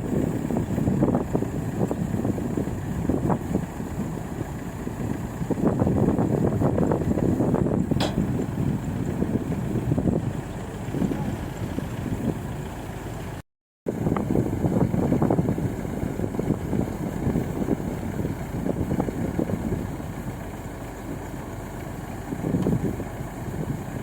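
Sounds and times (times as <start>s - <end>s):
combine harvester engine running: 0.0s - 24.0s.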